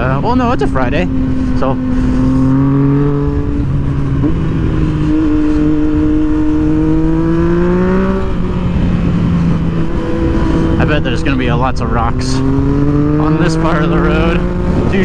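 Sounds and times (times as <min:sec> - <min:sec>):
motorcycle engine accelerating: 0:00.0 - 0:15.0
wind and road noise: 0:00.0 - 0:15.0.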